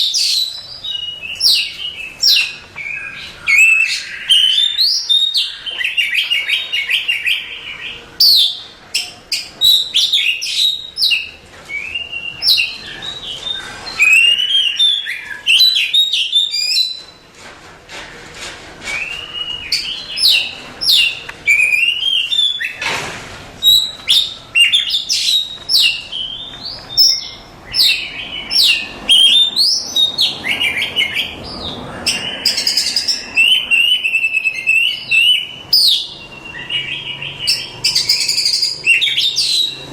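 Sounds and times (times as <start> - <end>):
bird singing whistles and trills: 0.0 - 17.2, 18.9 - 22.8, 23.6 - 39.9.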